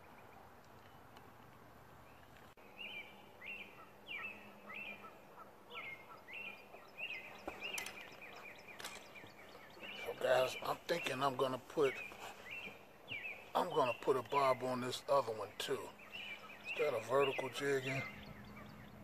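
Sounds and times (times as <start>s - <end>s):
faint outdoor background noise: 0.0s - 19.0s
bird chirping: 2.0s - 19.0s.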